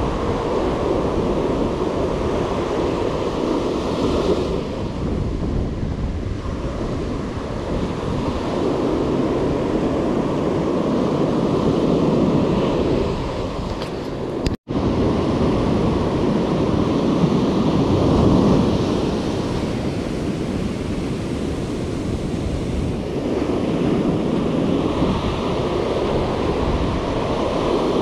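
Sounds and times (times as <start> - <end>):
ocean surf breaking: 0.0 - 28.0
wind rumbling on microphone: 0.0 - 28.0.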